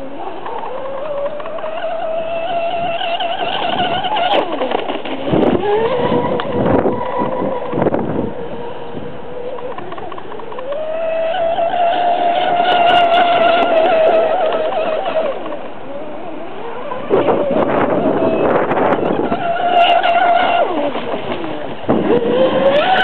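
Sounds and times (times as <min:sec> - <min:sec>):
rc speedboat motor whine: 0:00.0 - 0:23.0
rough choppy water noise: 0:00.0 - 0:23.0.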